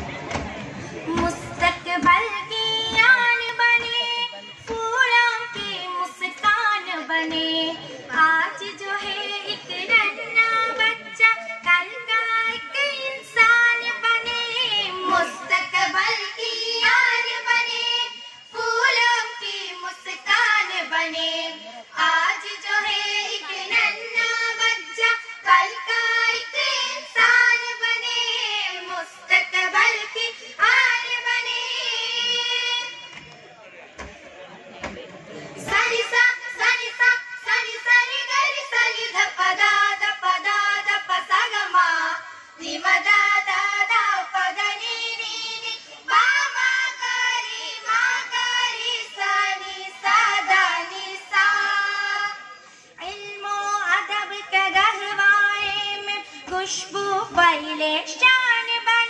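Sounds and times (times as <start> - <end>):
girls singing into microphones: 0.0 - 33.3, 35.4 - 59.0.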